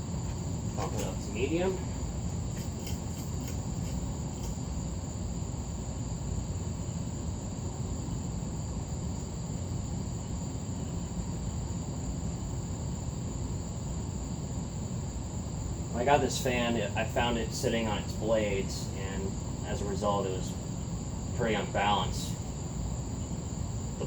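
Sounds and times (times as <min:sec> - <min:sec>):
ceiling fan whirring: 0:00.0 - 0:24.0.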